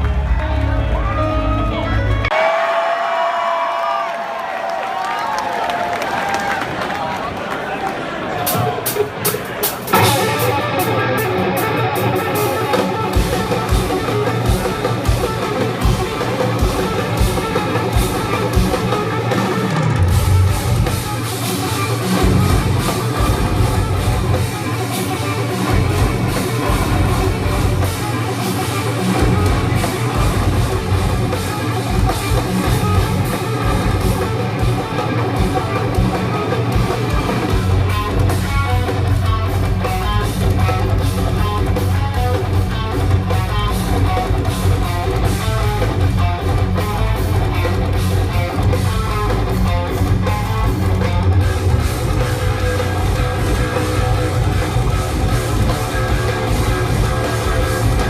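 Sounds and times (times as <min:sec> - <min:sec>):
electric guitars: 0:00.0 - 0:02.3, 0:08.4 - 0:58.0
drum kit: 0:08.4 - 0:58.0.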